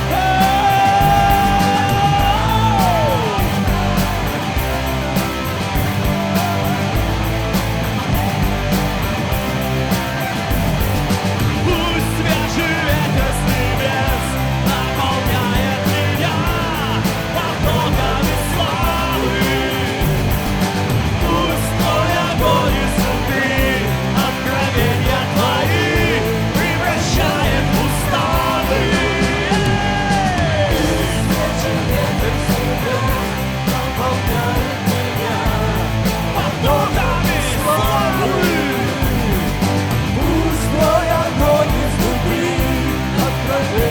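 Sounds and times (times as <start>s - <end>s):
person singing: 0.0s - 7.2s, 11.6s - 43.9s
rock worship band playing: 0.0s - 43.9s.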